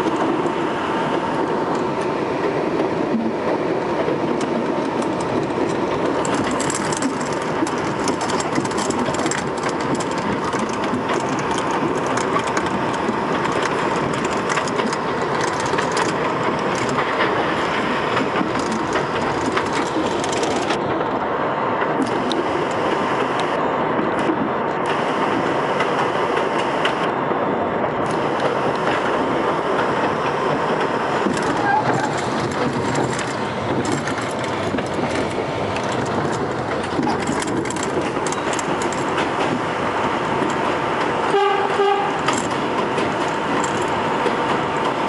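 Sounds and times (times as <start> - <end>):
rail clicks: 0.0 - 45.0
subway wheels rumbling: 0.0 - 45.0.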